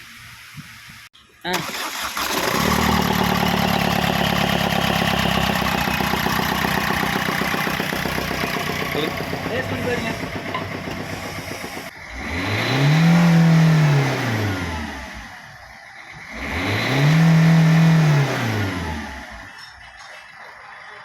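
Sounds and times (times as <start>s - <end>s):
car engine idling and revving: 1.6s - 21.0s.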